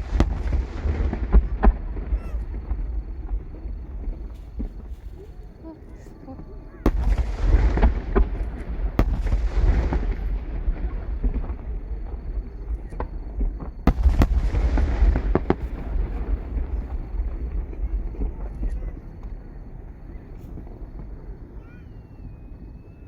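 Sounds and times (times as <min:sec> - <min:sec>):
fireworks crackling: 0:00.0 - 0:21.6
fireworks booming: 0:00.0 - 0:22.9.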